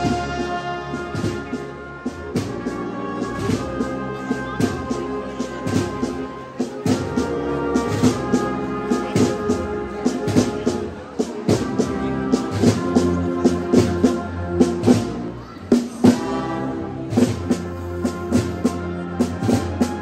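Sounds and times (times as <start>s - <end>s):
brass band playing march: 0.0s - 20.0s
drum beats: 0.0s - 20.0s.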